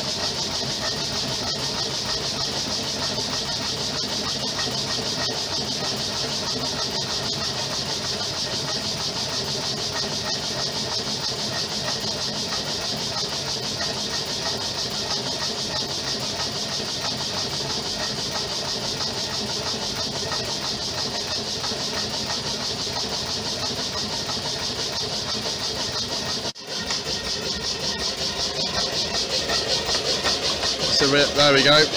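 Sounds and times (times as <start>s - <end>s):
engine rhythmic beat: 0.0s - 31.9s.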